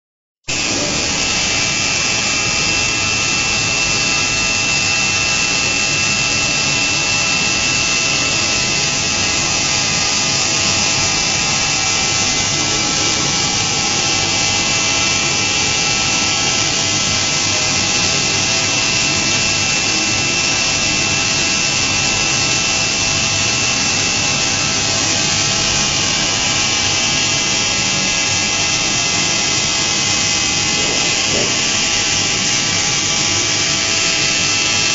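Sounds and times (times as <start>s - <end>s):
milling spindle high whine: 0.4s - 34.9s
metal cutting hiss: 0.5s - 34.9s.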